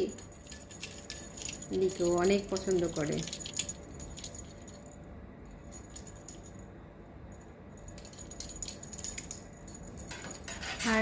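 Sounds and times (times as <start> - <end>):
cat toy jingling and rattling: 0.0 - 6.7, 7.3 - 11.0.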